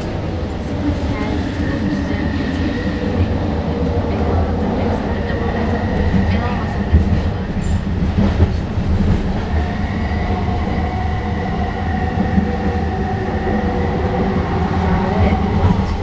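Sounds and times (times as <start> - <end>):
train car rumbling and whining: 0.0 - 16.0.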